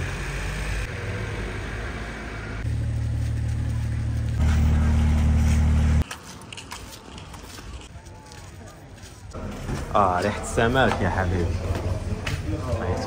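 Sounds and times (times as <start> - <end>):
street ambience rumble: 0.0 - 13.0.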